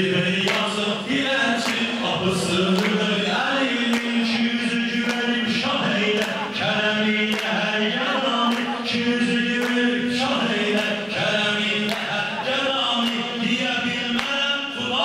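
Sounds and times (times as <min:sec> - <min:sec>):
lead voice over loudspeakers: 0:00.0 - 0:15.0
men chanting in unison: 0:00.0 - 0:15.0
hand claps: 0:00.4 - 0:00.8, 0:01.5 - 0:14.5.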